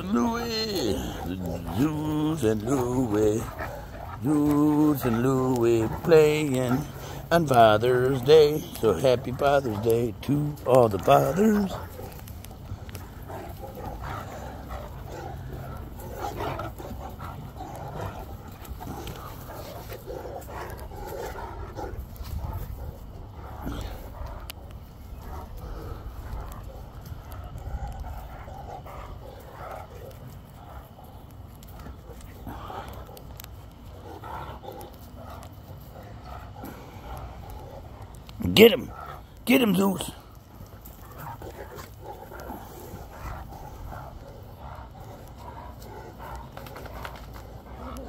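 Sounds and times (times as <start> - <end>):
steady low rumble: 0.0 - 39.5, 40.1 - 48.0
rough dog vocal sounds: 0.0 - 48.0
light clicks: 8.4 - 39.4, 40.2 - 48.0.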